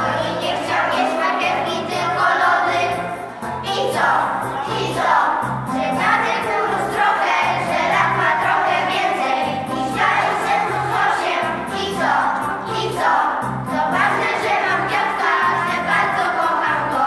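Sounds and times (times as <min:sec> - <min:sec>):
children singing in unison: 0:00.0 - 0:17.0
instrumental accompaniment: 0:00.0 - 0:17.0.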